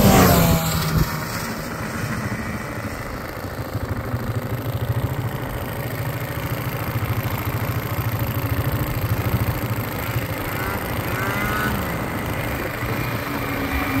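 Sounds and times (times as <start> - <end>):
snowmobile engine low pulsing: 0.0 - 14.0.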